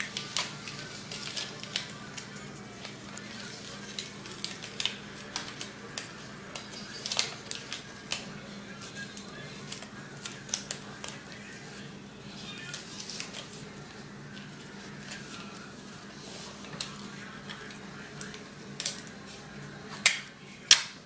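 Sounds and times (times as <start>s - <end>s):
paper crinkling: 0.0s - 20.8s.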